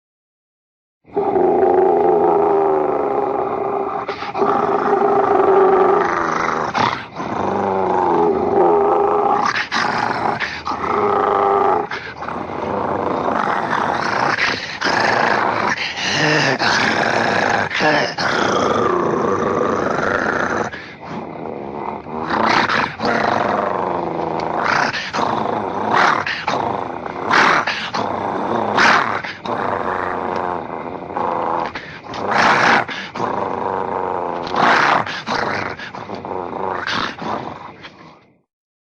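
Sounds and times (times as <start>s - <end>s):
monster growls: 1.1s - 38.2s.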